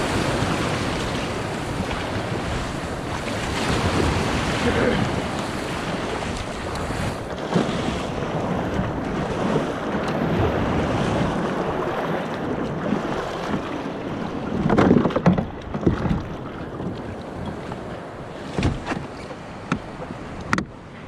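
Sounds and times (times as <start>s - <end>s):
water sloshing and waves breaking: 0.0s - 21.0s
wind buffeting microphone: 0.0s - 21.0s.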